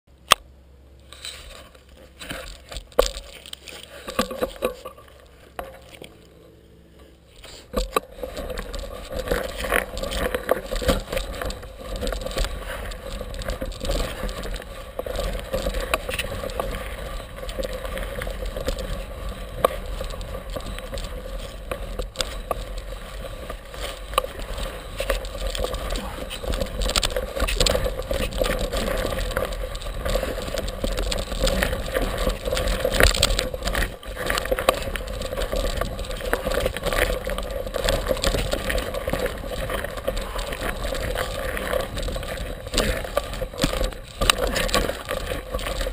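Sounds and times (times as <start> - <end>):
tyre rattling over dirt and rock: 1.1 - 6.4, 7.3 - 45.9.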